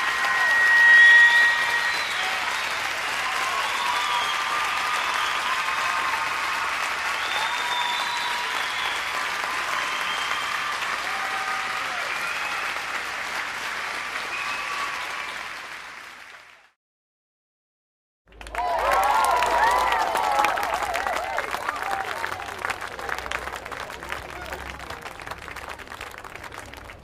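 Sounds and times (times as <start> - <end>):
large crowd applauding: 0.0 - 16.8, 18.3 - 27.0.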